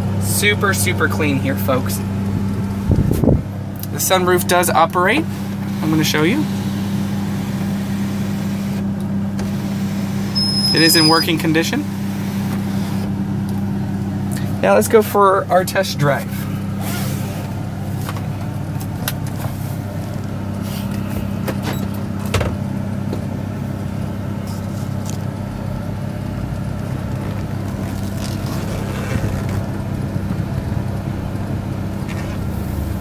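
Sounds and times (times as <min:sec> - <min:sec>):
engine low hum inside cab: 0:00.0 - 0:33.0.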